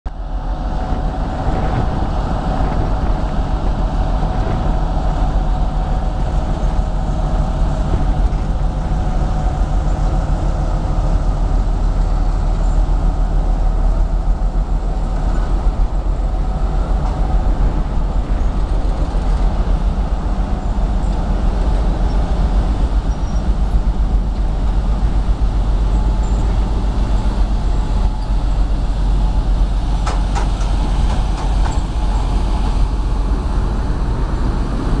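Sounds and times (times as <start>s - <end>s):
diesel locomotive passing: 0.1s - 35.0s.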